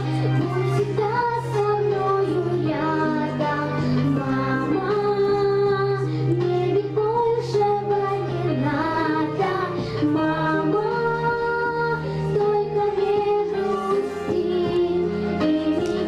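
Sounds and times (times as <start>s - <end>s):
girl singing into microphone: 0.0s - 16.0s
instrumental accompaniment: 0.0s - 16.0s.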